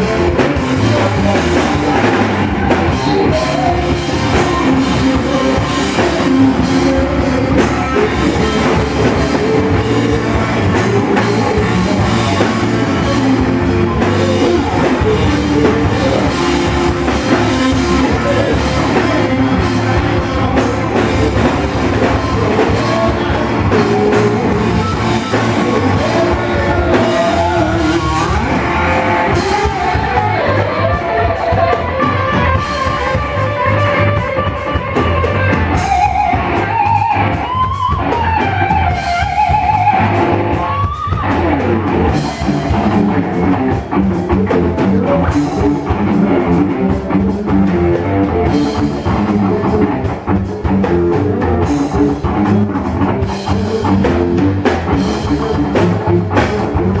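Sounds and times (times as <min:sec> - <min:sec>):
drum kit beat: 0:00.0 - 0:57.0
electric guitar: 0:00.0 - 0:57.0
sliding lead guitar line: 0:00.0 - 0:57.0.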